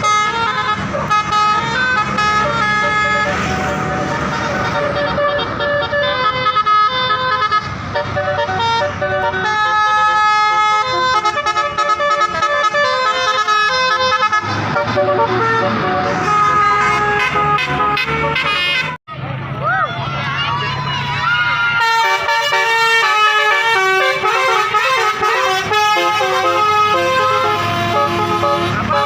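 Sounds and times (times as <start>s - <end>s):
multi-tone bus horn tune: 0.0s - 19.0s, 21.8s - 29.0s
bus engine running: 0.0s - 29.0s.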